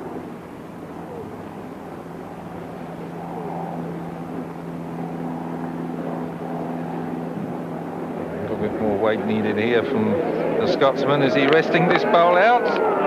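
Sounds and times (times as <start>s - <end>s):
faint murmur of voices: 0.0s - 13.0s
low hum of two tones: 0.0s - 13.0s.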